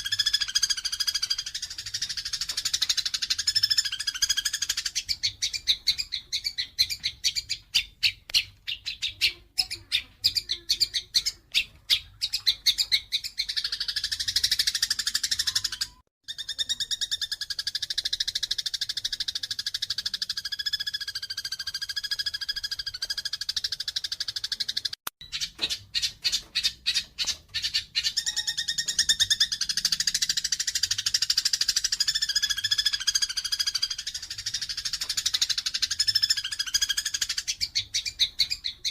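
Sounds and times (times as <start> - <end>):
sparrows chirping and chattering: 0.0 - 38.9.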